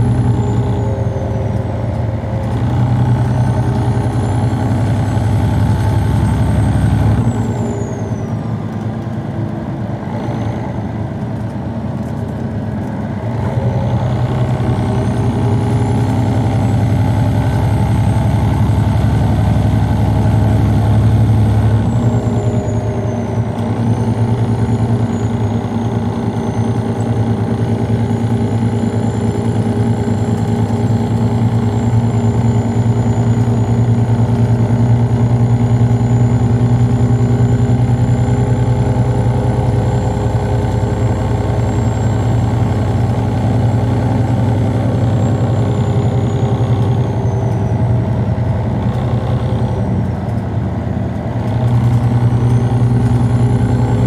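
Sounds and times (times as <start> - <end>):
bus diesel engine idling: 0.0 - 54.0.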